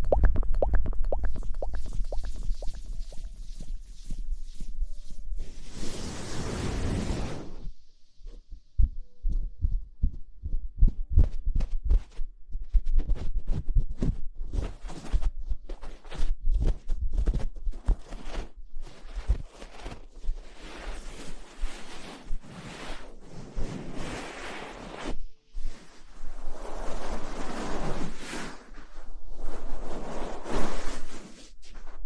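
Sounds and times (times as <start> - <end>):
scrubbing rustle on microphone: 1.1 - 7.7, 11.6 - 32.0.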